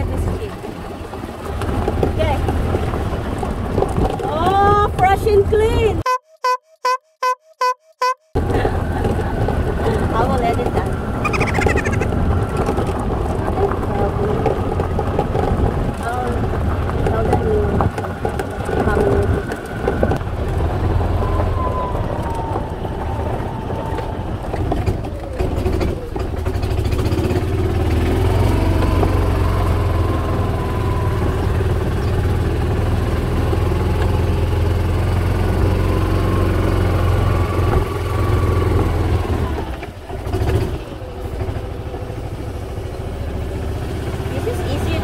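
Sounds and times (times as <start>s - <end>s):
golf cart driving drone: 8.4s - 45.0s.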